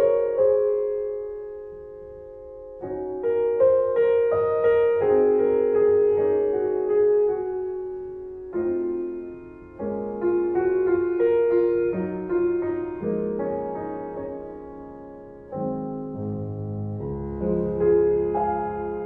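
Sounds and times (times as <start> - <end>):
slow solo piano: 0.0 - 19.0.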